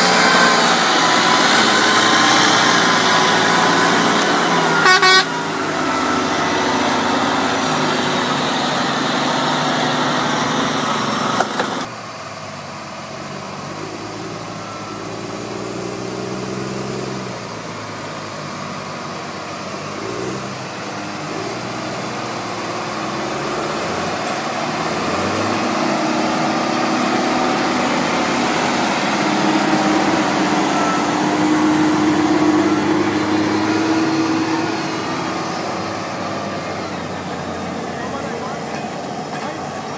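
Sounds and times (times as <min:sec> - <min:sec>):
dump truck engine under load: 0:00.0 - 0:39.9
heavy truck diesel engine: 0:00.0 - 0:39.9.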